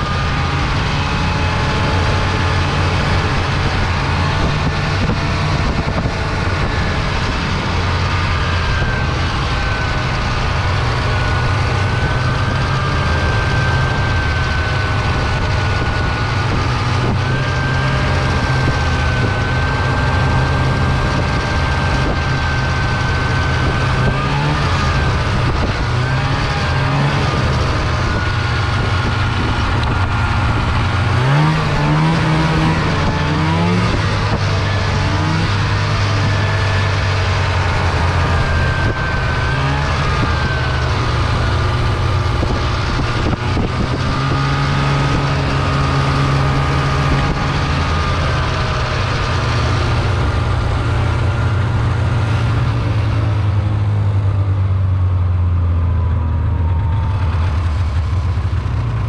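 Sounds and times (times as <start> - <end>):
high whine: 0.0 - 59.0
snowmobile engine running: 0.0 - 59.0.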